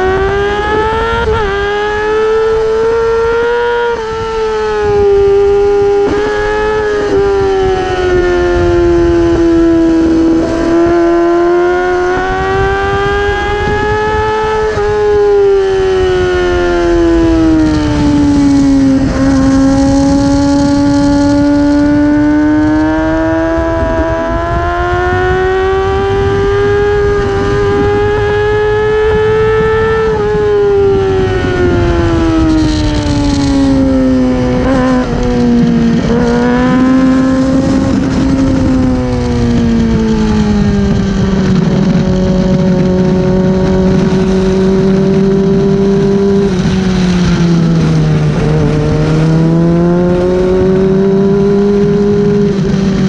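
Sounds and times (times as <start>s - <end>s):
racing motorcycle engine high revs: 0.0s - 53.0s
wind rushing over microphone: 0.0s - 53.0s.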